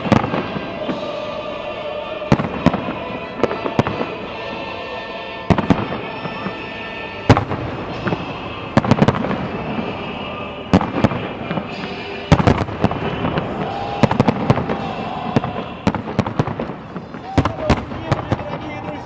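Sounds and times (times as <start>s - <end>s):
fireworks bangs: 0.0s - 19.0s
fireworks rumble and crackle: 0.0s - 19.0s.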